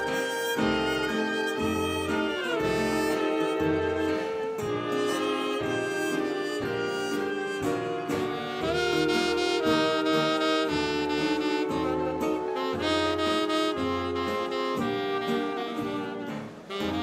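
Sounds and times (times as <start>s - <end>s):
big band dance music: 0.0s - 17.0s.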